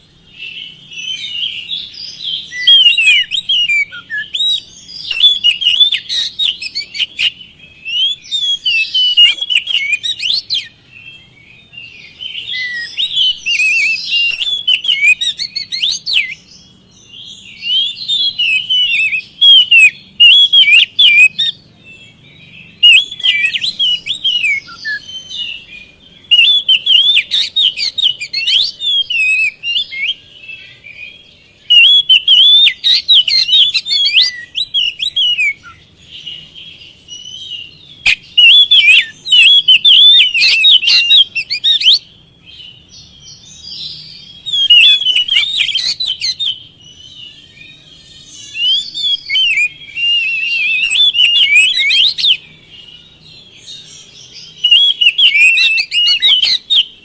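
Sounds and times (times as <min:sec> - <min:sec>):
songbird whistling and chirping: 0:00.0 - 0:57.0.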